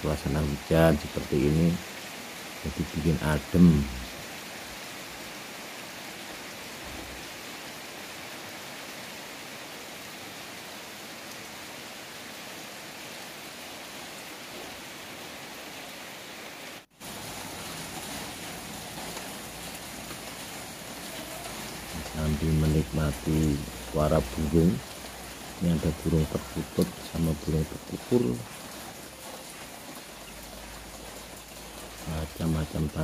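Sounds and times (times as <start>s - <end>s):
rain falling on leaves: 0.0s - 33.0s.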